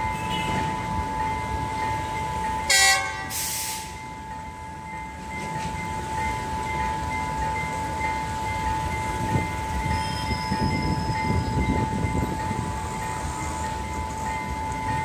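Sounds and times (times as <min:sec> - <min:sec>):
level crossing alarm beeping: 0:00.0 - 0:15.0
low train rumble: 0:00.0 - 0:15.0.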